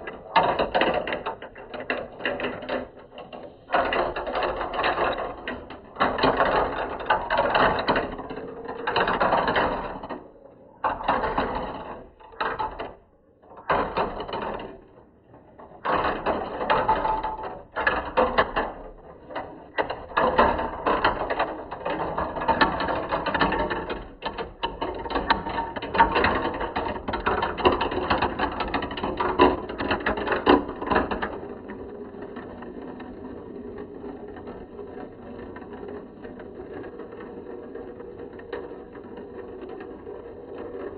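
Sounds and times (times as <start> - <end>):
marbles rolling down plastic track: 0.0 - 40.9.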